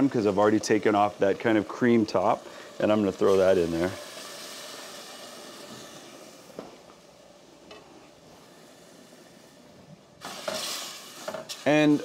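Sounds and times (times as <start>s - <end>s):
curry paste sizzling in pot: 0.0s - 12.0s.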